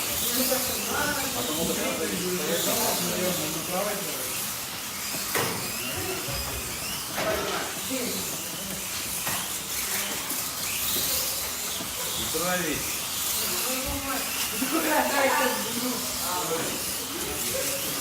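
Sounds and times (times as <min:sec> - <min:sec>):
small electric motors whirring: 0:00.0 - 0:18.0.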